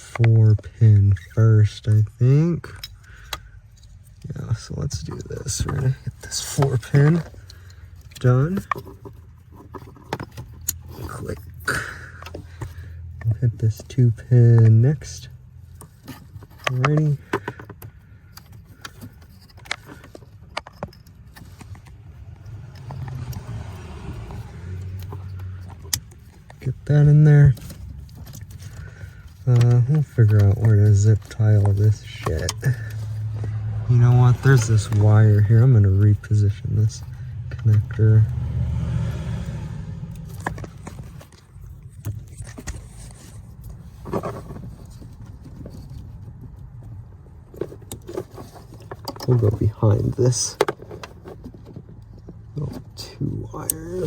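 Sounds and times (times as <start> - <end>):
low steady hum: 0.0 - 54.0
rustling and clatter of wires: 0.0 - 54.0.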